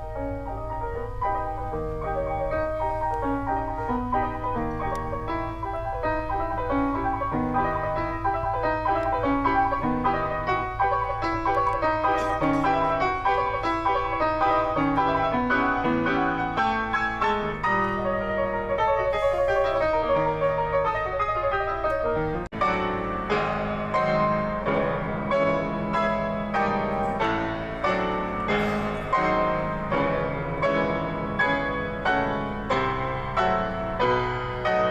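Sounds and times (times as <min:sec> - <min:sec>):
piano music: 0:00.0 - 0:34.9.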